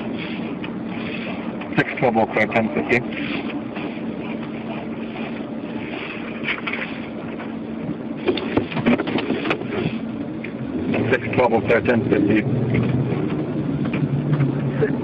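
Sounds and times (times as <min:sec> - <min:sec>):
car road and engine noise: 0:00.0 - 0:15.0
faint steady hum: 0:00.0 - 0:15.0.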